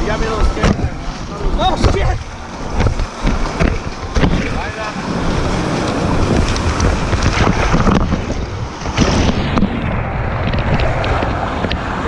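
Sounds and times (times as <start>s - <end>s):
paddles digging into water: 0.0s - 9.8s
water splashing around raft: 0.0s - 12.0s
wind noise on microphone: 0.0s - 12.0s.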